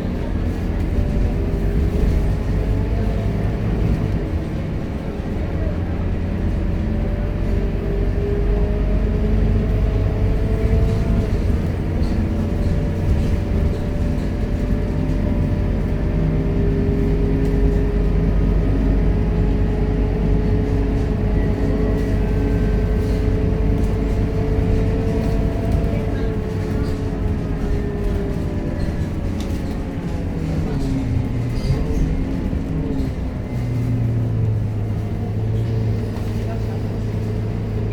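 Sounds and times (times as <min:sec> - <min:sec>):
bus engine rumble: 0:00.0 - 0:37.9.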